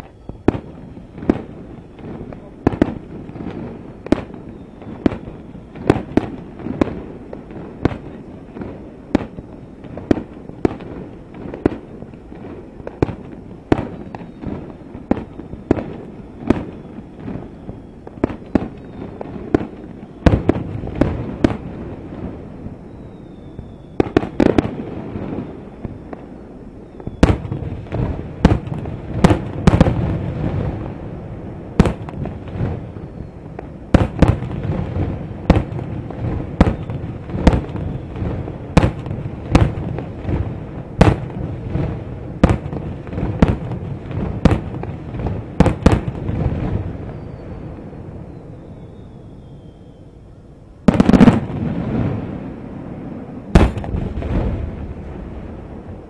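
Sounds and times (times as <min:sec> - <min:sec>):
firework bangs: 0:00.0 - 0:48.2, 0:50.8 - 0:56.0.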